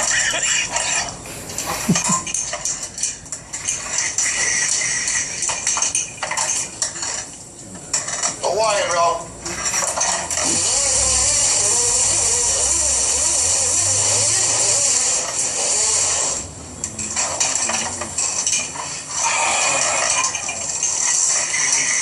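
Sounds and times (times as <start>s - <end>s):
steady hiss: 0.3s - 5.5s, 9.5s - 22.0s.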